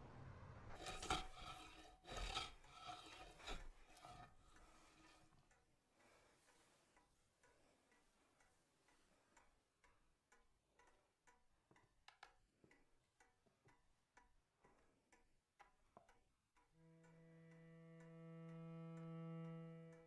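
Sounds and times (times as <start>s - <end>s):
faint clock ticking: 0.8s - 20.0s.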